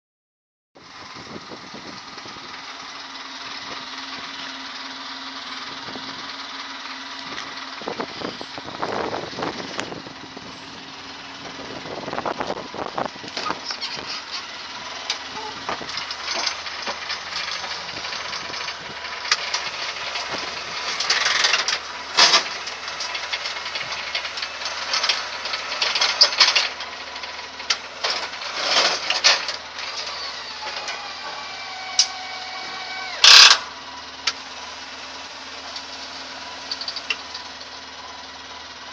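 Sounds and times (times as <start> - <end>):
vehicle engine idling: 0.8 - 38.9
rattling and clunking: 1.7 - 37.7.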